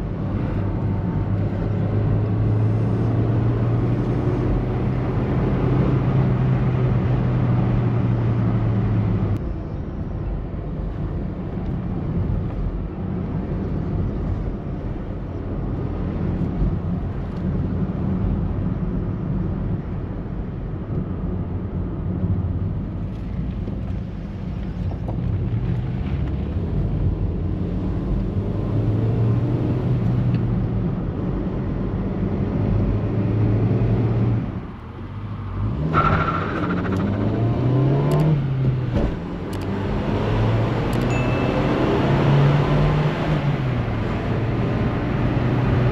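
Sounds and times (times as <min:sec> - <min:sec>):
road noise: 0:00.0 - 0:45.9.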